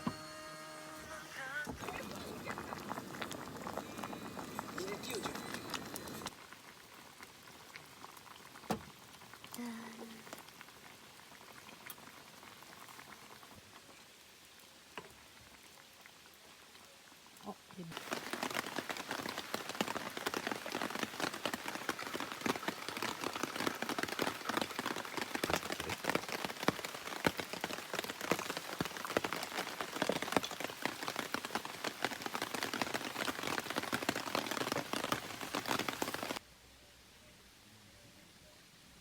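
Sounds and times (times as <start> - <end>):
steady rain falling: 0.0 - 36.5.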